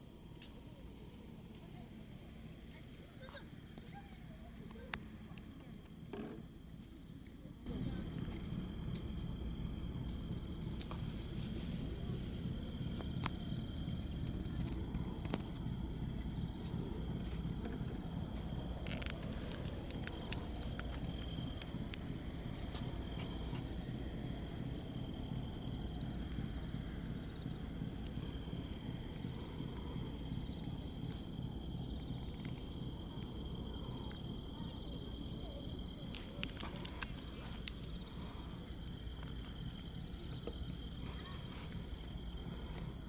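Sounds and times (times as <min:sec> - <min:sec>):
insects trilling: 0:00.0 - 0:43.0
low outdoor rumble: 0:00.0 - 0:43.0.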